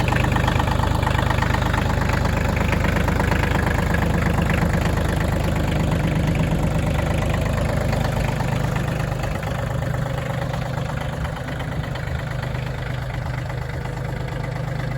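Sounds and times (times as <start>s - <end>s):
diesel tractor engine idling: 0.0s - 14.9s.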